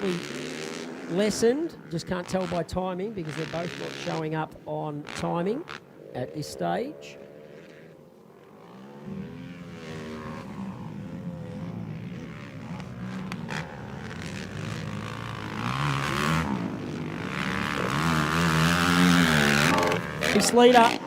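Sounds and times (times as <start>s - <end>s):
racing quad engines revving: 0.0s - 21.0s.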